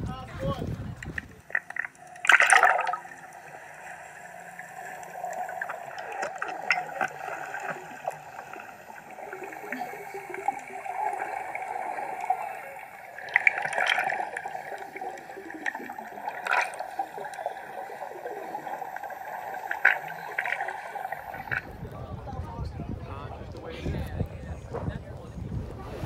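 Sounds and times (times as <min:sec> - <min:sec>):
muffled underwater sloshing: 0:00.0 - 0:26.0
bubbly bursts: 0:01.0 - 0:21.9.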